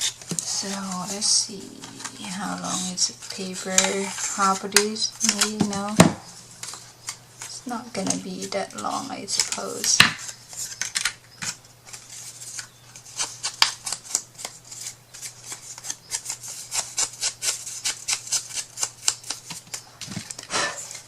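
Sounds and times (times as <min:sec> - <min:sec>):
paper crinkling and tapping: 0:00.0 - 0:21.0
steady low hum: 0:00.0 - 0:21.0.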